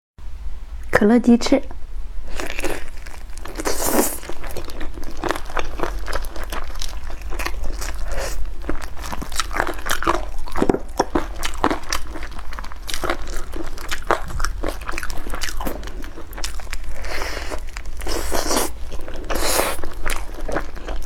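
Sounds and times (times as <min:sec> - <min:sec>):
biting and chewing with crunches: 0:02.3 - 0:21.0.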